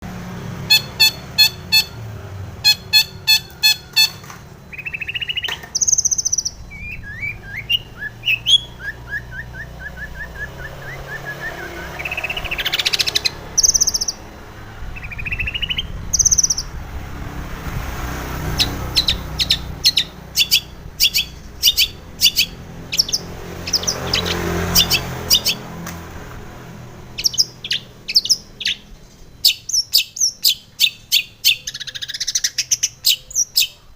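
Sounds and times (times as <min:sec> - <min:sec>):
bird singing: 0:00.6 - 0:17.0, 0:18.2 - 0:33.9.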